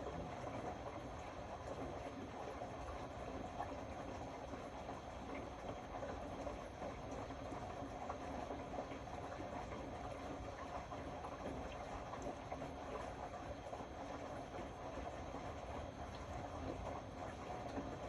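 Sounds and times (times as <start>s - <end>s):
washing machine churning: 0.0s - 18.0s.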